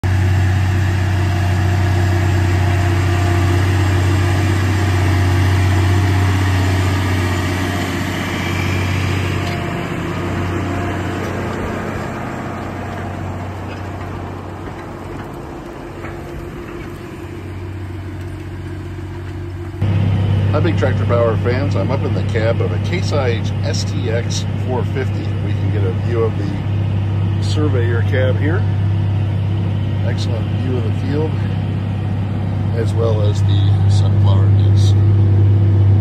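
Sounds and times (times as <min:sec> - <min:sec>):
tractor diesel engine droning: 0:00.0 - 0:36.0.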